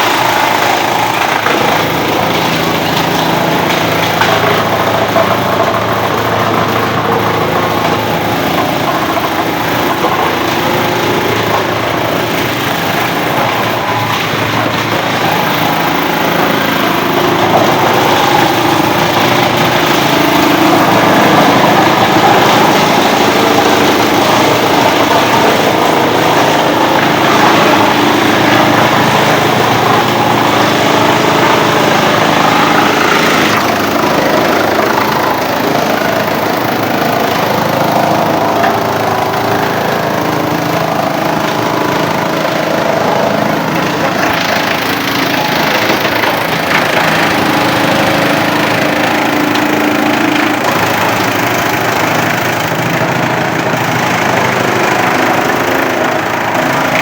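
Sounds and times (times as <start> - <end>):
wood chipper running: 0.0 - 57.0.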